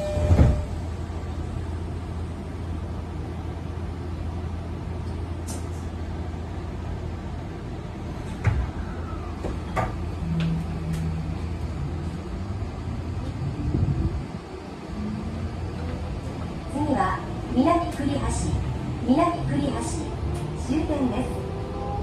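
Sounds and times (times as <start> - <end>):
train equipment humming: 0.0 - 22.0.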